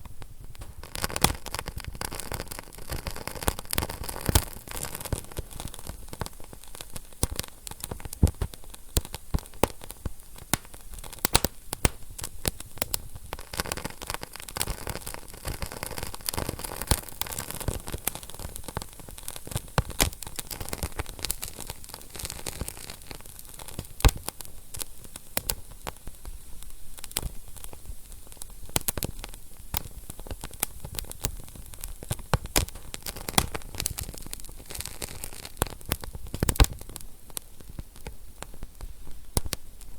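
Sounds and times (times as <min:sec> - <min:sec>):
burning logs crackling and popping: 0:00.0 - 0:39.9
fire hissing: 0:00.1 - 0:39.9.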